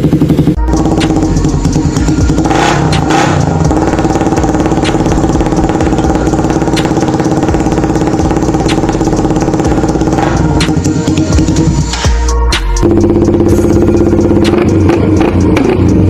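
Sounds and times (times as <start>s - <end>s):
small motorcycle engine running: 0.0s - 12.1s, 12.8s - 16.0s.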